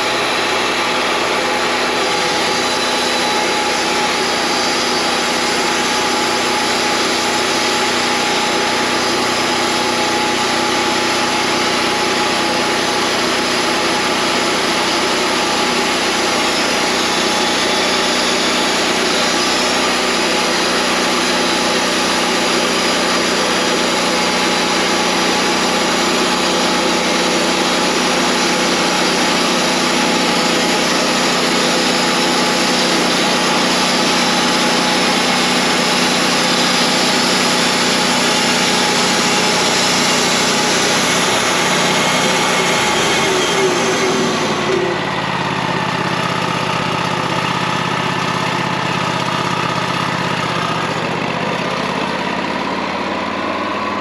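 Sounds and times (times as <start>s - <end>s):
bandsaw mill running: 0.0s - 54.0s.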